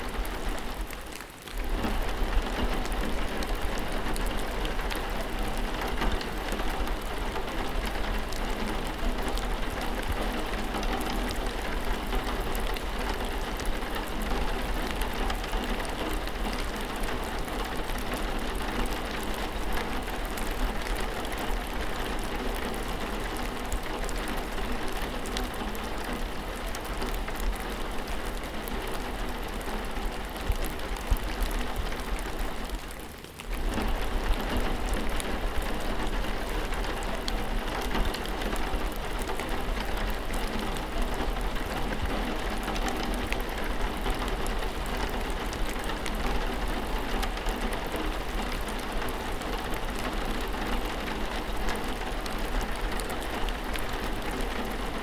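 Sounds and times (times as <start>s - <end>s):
rain falling: 0.0s - 55.0s
raindrop ticks: 0.0s - 55.0s.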